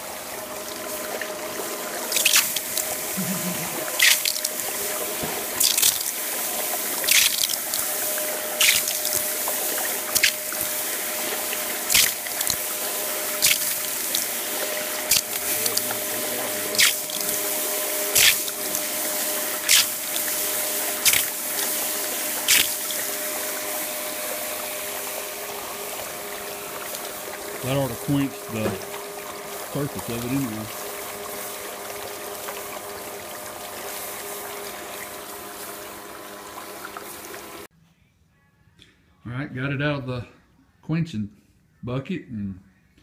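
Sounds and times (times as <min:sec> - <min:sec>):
water hissing on hot metal: 0:00.0 - 0:37.7
water splashing: 0:00.0 - 0:37.7.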